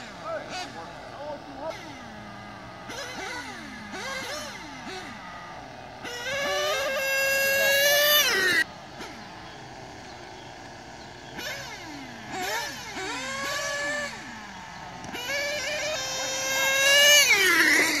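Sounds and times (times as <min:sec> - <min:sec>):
model car engines revving: 0:00.0 - 0:18.0.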